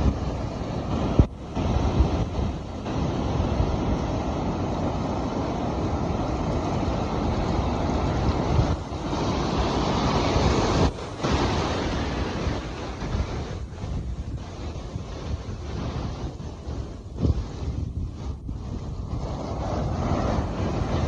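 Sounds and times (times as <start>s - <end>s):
sea surf rushing: 0.0s - 21.0s
wind buffeting microphone: 0.0s - 21.0s.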